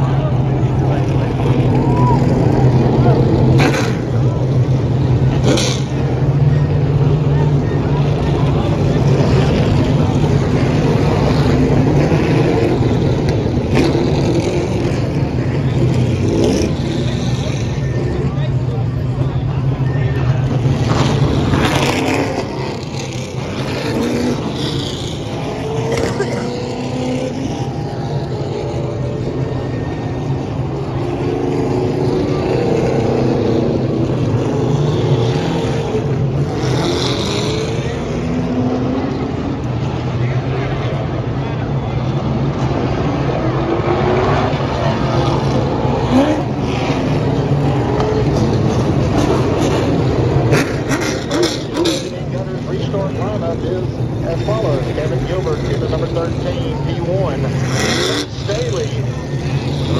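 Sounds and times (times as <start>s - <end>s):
race car engines passing: 0.0s - 59.9s.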